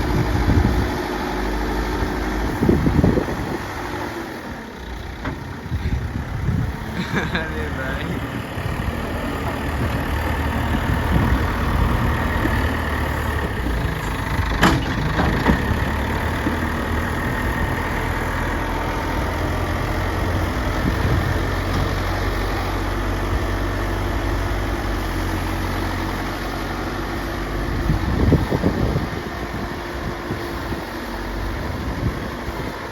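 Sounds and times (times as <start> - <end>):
bulldozer diesel engine running: 0.0 - 32.9.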